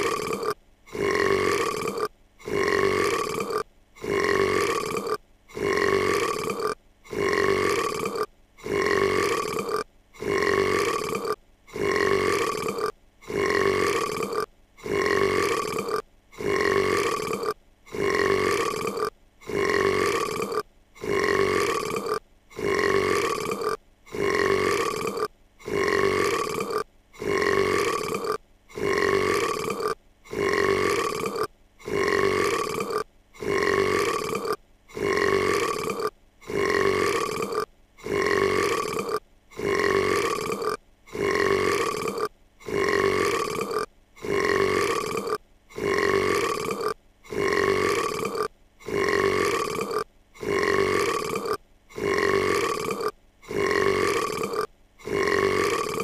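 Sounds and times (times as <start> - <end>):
cartoon girl burping: 0.0 - 56.0.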